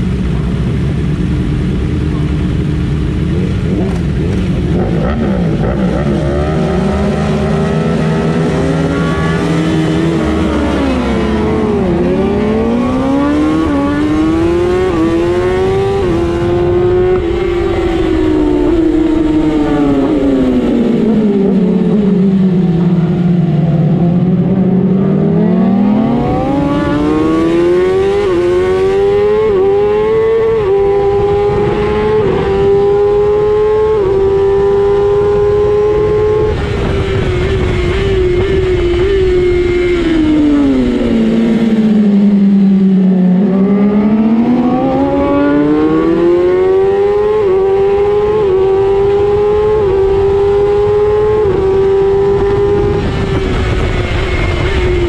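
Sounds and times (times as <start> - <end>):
motorcycle engine revving: 0.0 - 55.0
other motorcycle engines: 0.0 - 55.0.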